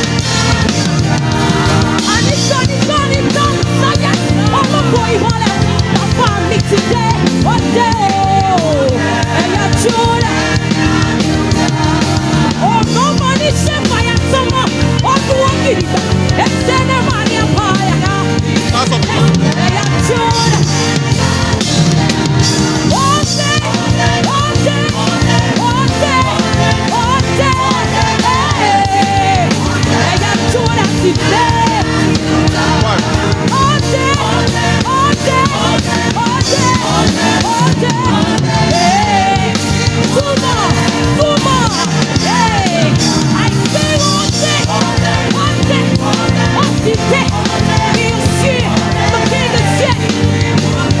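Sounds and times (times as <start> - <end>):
bass line: 0.0 - 51.0
drum kit: 0.0 - 51.0
worship band music: 0.0 - 51.0.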